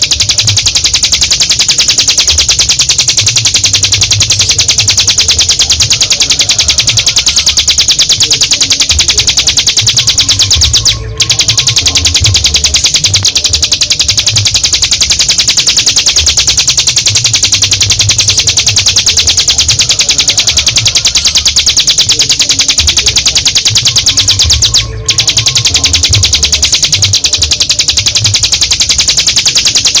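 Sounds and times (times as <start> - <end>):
bird singing high trill: 0.0 - 30.0.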